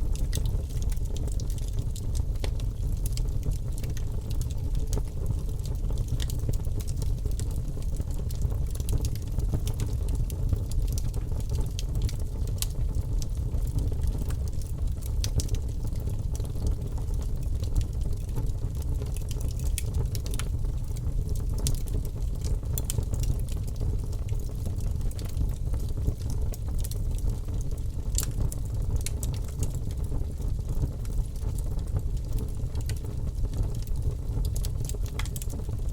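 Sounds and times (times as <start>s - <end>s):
fire rumbling in fireplace: 0.0s - 35.9s
wood crackling and popping: 0.0s - 35.9s.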